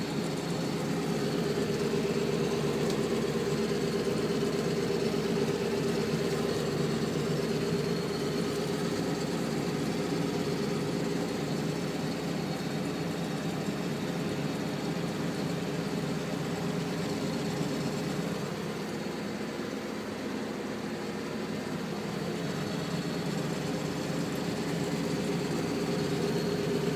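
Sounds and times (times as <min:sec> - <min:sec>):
tractor engine humming: 0:00.0 - 0:26.9.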